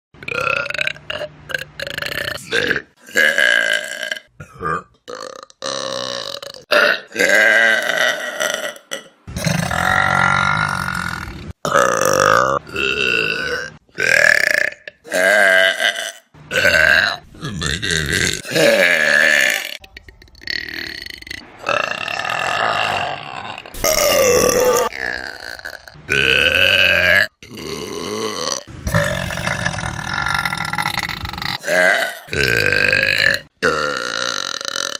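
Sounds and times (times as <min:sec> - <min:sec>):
loud burps: 0:00.2 - 0:34.9.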